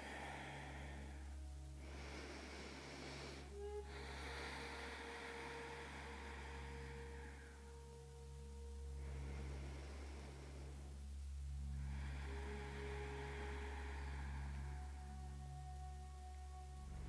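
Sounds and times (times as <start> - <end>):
soft long exhale: 0.0 - 8.0, 9.0 - 11.0, 11.6 - 15.5
low steady hum: 0.0 - 17.0.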